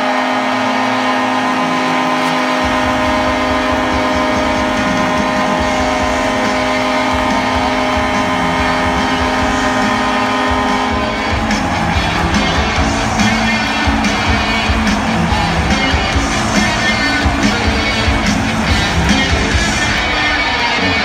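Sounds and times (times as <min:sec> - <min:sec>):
arena music over loudspeakers: 0:00.0 - 0:21.0
crowd cheering: 0:00.0 - 0:21.0.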